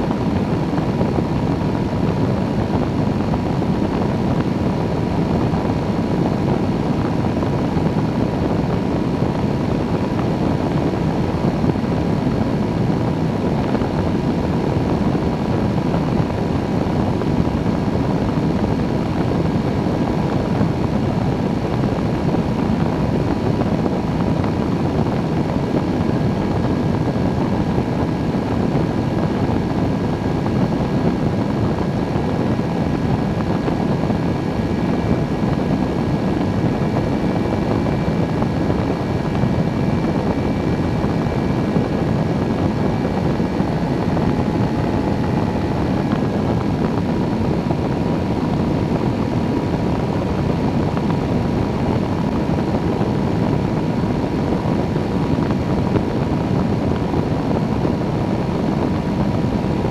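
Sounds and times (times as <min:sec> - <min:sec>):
engine and propeller drone: 0:00.0 - 0:59.9
wind rushing on camera: 0:00.0 - 0:59.9.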